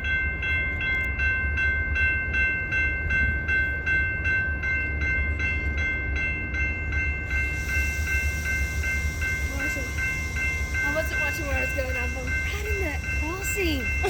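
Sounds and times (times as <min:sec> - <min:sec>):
crossing warning bell ringing: 0:00.0 - 0:14.0.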